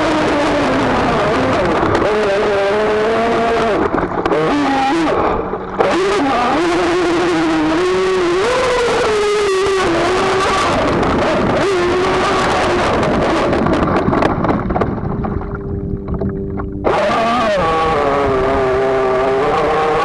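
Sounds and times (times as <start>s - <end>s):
water splashing against hull: 0.0s - 20.0s.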